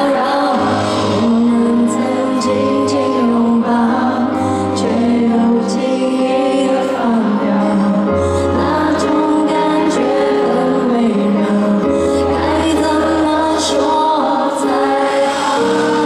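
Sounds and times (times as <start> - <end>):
pop ballad over loudspeakers: 0.0 - 16.0.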